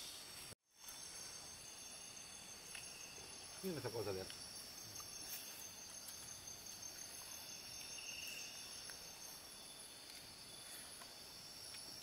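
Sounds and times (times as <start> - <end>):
crickets and night insects: 0.0 - 12.0.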